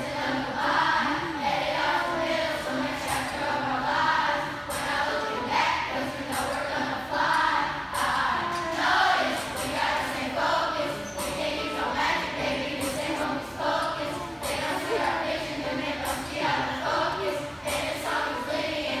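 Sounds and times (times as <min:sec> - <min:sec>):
children rapping and singing: 0:00.0 - 0:19.0
music with steady beat: 0:00.0 - 0:19.0.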